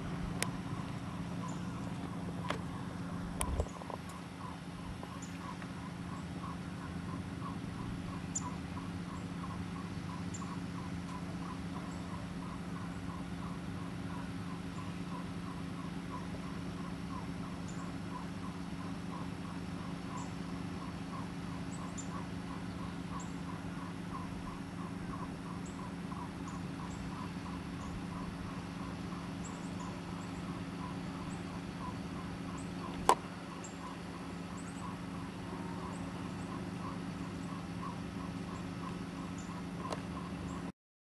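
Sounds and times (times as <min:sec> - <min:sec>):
regular chirping: 0:00.0 - 0:40.7
steady low hum: 0:00.0 - 0:40.7.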